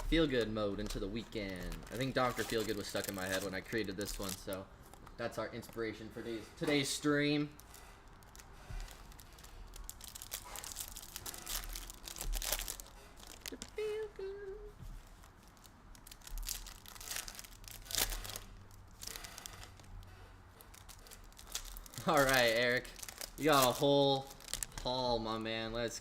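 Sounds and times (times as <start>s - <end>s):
plastic wrapping crinkling and tearing: 0.0s - 26.0s.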